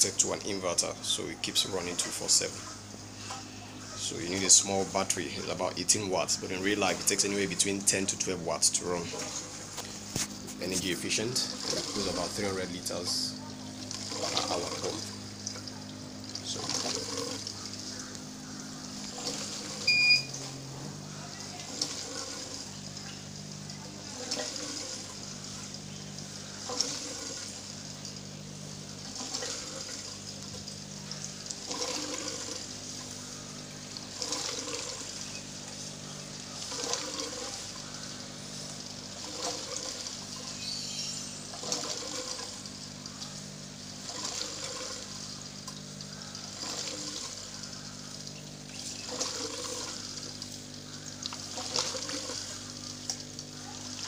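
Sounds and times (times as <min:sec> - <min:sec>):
steady low hum: 0:00.0 - 0:54.0
water gurgling and trickling: 0:00.0 - 0:54.0.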